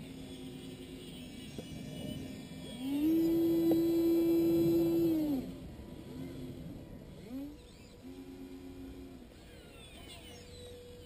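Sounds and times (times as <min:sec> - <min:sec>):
electric servo whine: 0:00.0 - 0:11.0.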